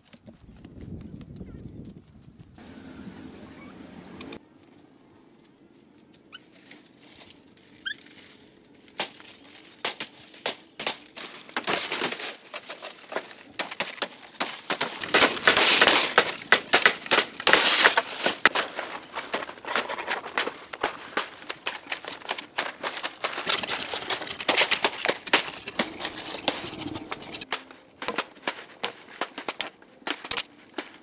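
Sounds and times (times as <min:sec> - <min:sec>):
dry palm fronds rustling: 0:04.5 - 0:31.0.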